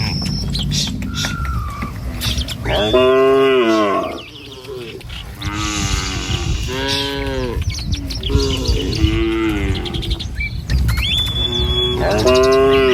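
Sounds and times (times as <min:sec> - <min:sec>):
cattle mooing: 0:00.0 - 0:10.4, 0:11.4 - 0:12.9
faint bird chirps: 0:00.0 - 0:12.9.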